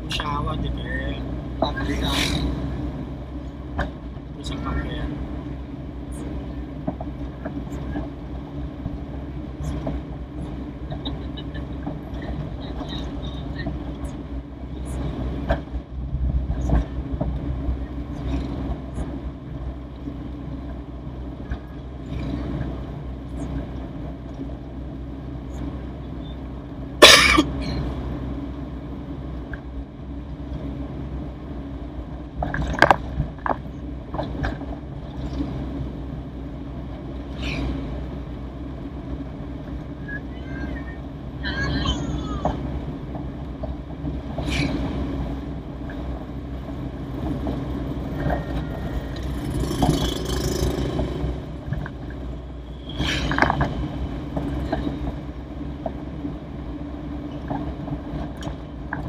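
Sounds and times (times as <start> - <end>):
car engine drone: 0.0 - 59.0.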